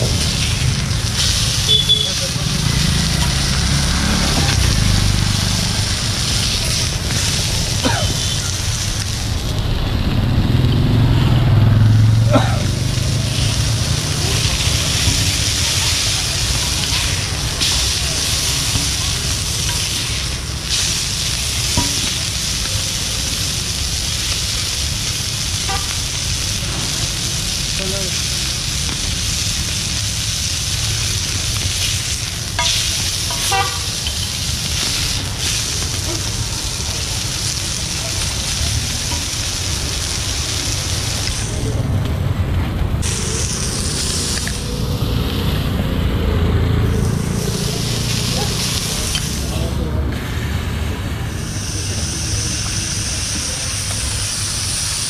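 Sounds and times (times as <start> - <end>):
seafood sizzling on griddle: 0.0 - 55.0.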